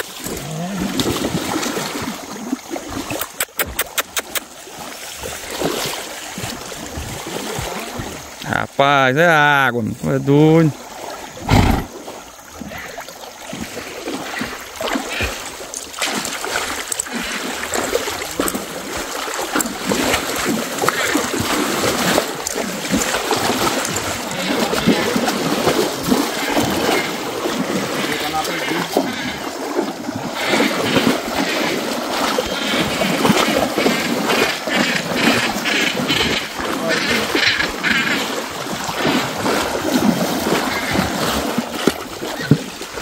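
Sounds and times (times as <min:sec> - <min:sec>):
water splashing and sloshing: 0:00.0 - 0:43.0.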